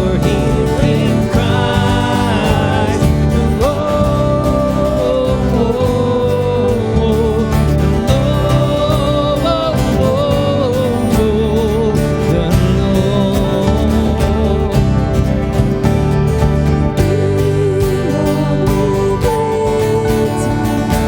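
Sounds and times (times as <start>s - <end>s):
person singing with instruments: 0.0s - 21.0s.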